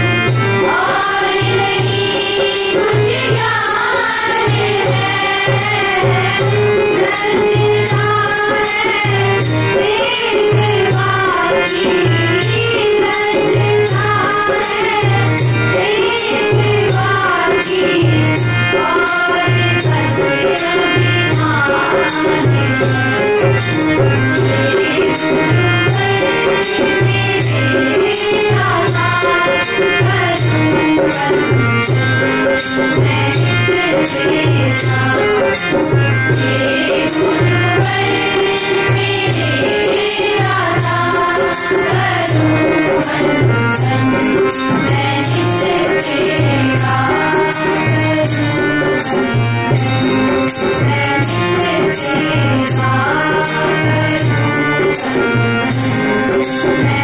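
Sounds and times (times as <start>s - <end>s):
person singing devotional song: 0.0s - 57.0s
steady percussion beat: 0.0s - 57.0s.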